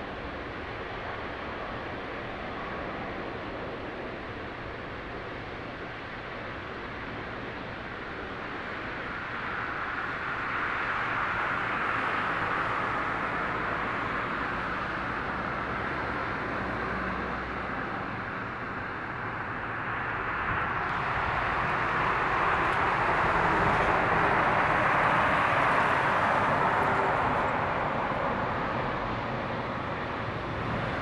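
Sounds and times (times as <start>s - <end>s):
jet engines at takeoff thrust: 0.0s - 31.0s.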